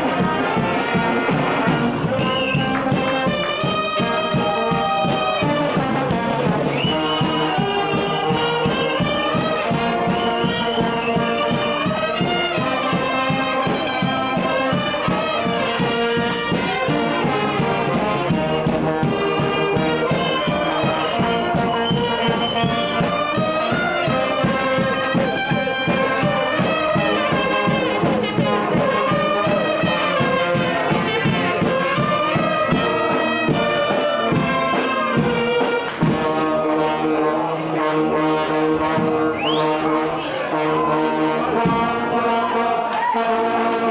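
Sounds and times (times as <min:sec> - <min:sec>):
steady drum beat: 0:00.0 - 0:37.7, 0:38.7 - 0:42.8
brass band playing: 0:00.0 - 0:43.9.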